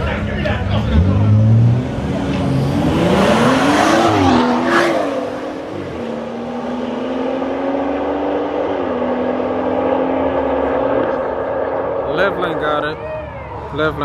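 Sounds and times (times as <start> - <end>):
car engines revving with upshifts: 0.6 - 12.9.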